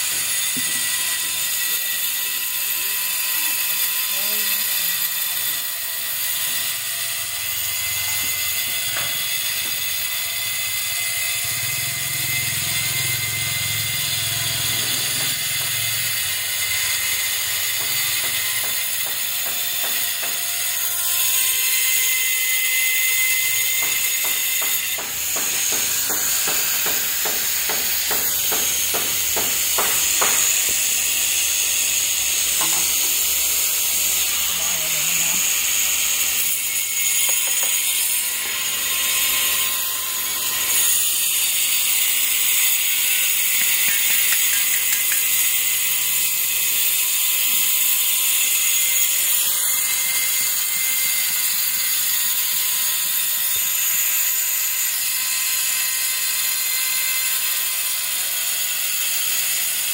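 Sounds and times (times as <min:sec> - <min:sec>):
angle grinder cutting tile: 0:00.0 - 0:59.9.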